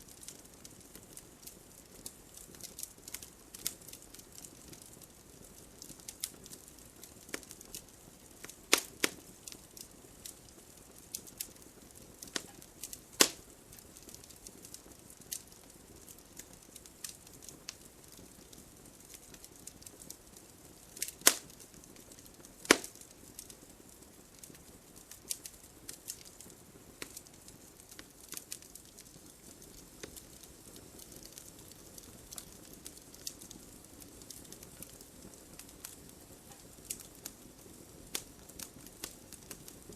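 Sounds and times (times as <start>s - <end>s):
campfire crackling: 0.0s - 39.9s
sharp cracks of burning wood: 0.0s - 39.9s
soft hiss of fire: 0.0s - 39.9s.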